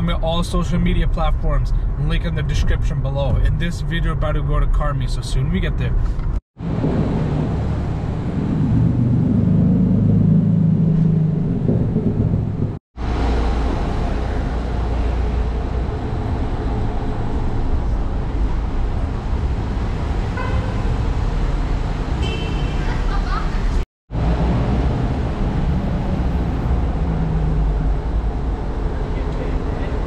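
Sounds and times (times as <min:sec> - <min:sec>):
road rumble: 0:00.0 - 0:30.0.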